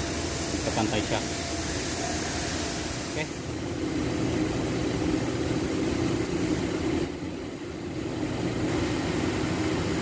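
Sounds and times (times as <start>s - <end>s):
steady droning hum: 0.0s - 10.0s.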